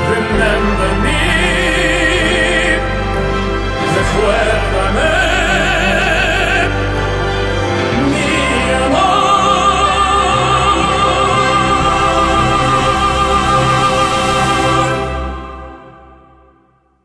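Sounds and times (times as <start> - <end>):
slow operatic music: 0.0 - 17.0.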